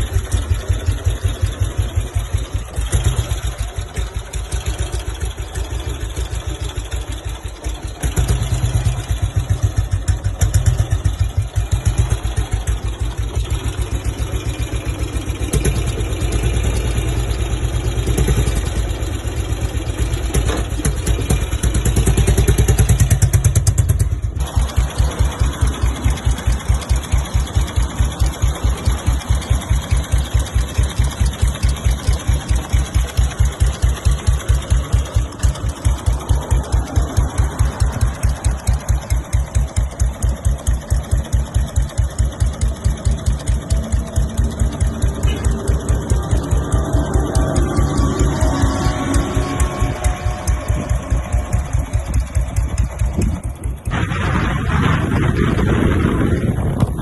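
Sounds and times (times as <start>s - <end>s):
single-cylinder engine running: 0.0s - 57.0s.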